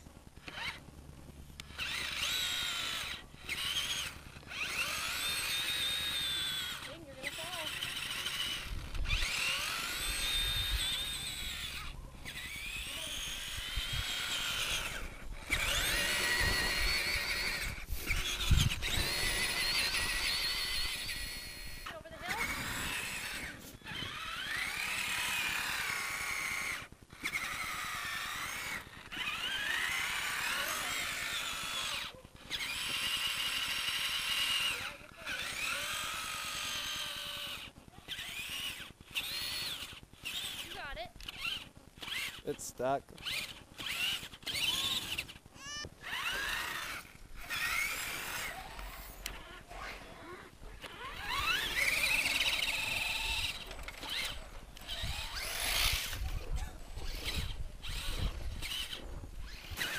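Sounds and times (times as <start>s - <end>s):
electric motor whining: 0.0s - 59.9s.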